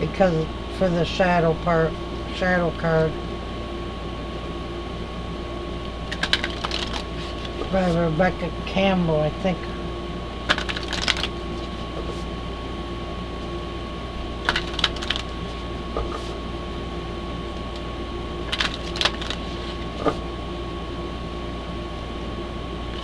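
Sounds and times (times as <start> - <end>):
mechanical hum with whine: 0.0 - 23.0.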